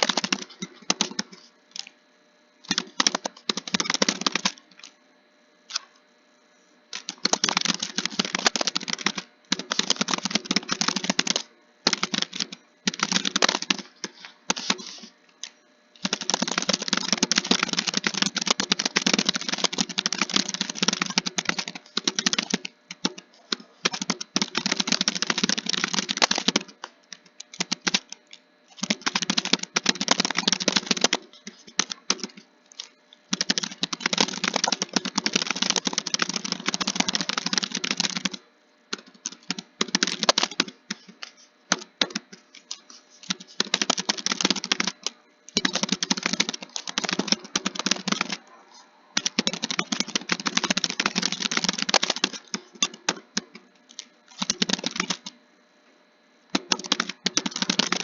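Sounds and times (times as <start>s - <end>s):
keyboard typing: 0.0s - 1.9s, 2.6s - 5.0s, 6.9s - 55.4s, 56.6s - 58.0s.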